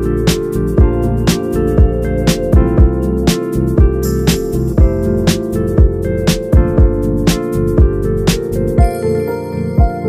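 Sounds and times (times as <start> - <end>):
bass drum: 0.0 - 8.8
background music with a beat: 0.0 - 10.0.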